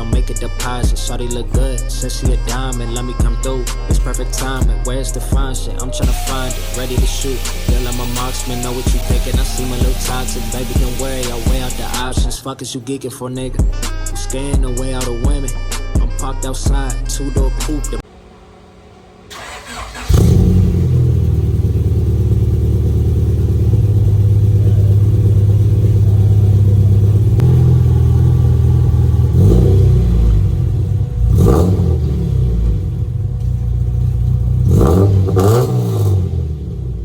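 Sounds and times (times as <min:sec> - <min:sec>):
car engine droning through exhaust: 0:00.0 - 0:12.4, 0:14.3 - 0:37.0.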